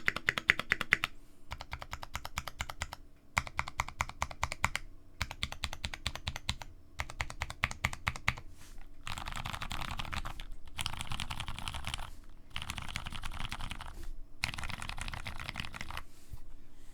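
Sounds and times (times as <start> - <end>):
mechanical keyboard typing: 0.0 - 8.4, 9.0 - 16.0.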